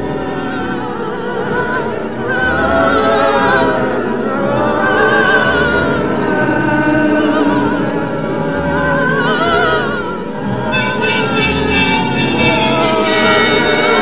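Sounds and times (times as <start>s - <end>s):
wordless choir singing: 0.0s - 14.0s.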